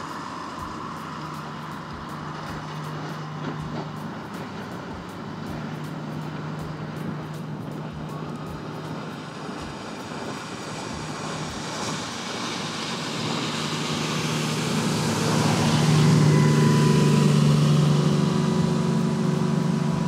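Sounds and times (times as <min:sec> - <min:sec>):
boat engines running fast: 0:00.0 - 0:20.0
rush of boat wash: 0:00.0 - 0:20.0.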